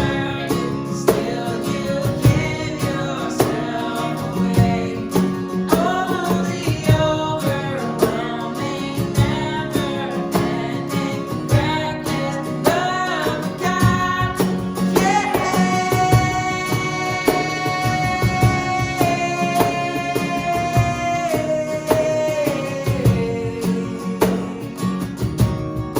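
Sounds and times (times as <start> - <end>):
person singing: 0.0 - 25.2
strummed acoustic guitar: 0.0 - 25.9
worship band playing: 0.0 - 25.9.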